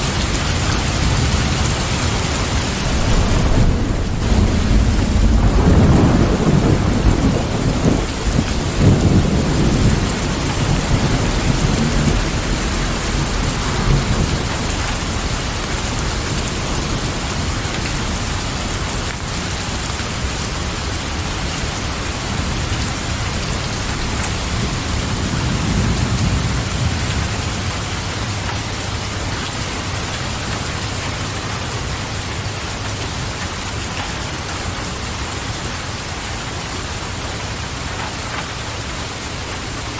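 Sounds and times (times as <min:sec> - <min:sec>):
thunder rumbling: 0:00.0 - 0:33.0
steady rain: 0:00.0 - 0:39.9.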